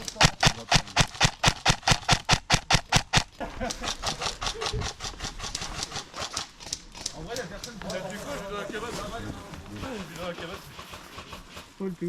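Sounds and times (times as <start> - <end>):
running footsteps: 0.0 - 12.0.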